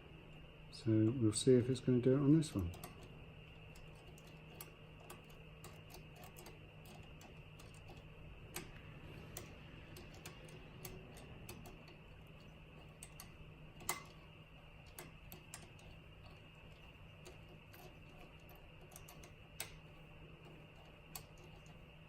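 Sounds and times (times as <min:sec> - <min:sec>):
lock picking clicks: 0:02.6 - 0:22.0.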